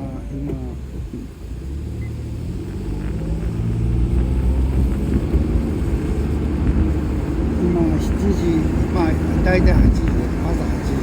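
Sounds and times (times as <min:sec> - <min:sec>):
car engine and road noise in cabin: 0:00.0 - 0:11.0.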